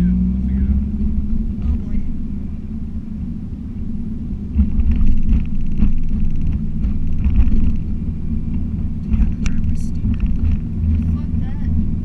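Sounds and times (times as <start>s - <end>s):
car engine rumble: 0.0s - 12.0s
tyres on road: 0.0s - 12.0s.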